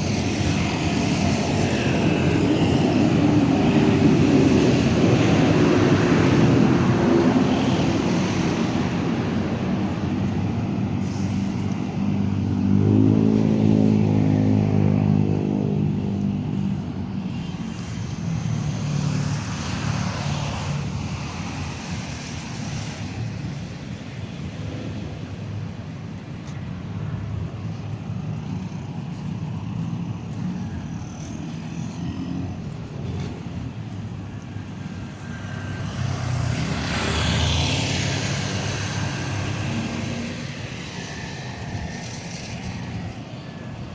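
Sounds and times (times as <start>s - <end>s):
engine hum passing by: 0.0s - 43.9s
steady engine noise: 0.0s - 43.9s.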